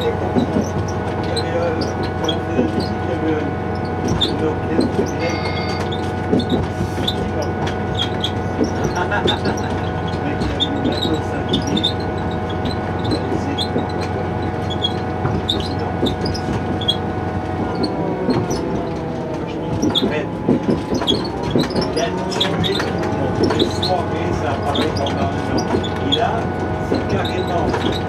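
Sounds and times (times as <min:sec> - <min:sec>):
railcar engine hum: 0:00.0 - 0:28.0
wheel squeaks and clicks: 0:00.0 - 0:28.0.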